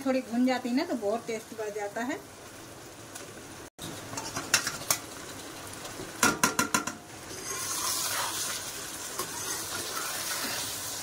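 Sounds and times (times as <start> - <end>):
fish sizzling in pan: 0.0 - 11.0.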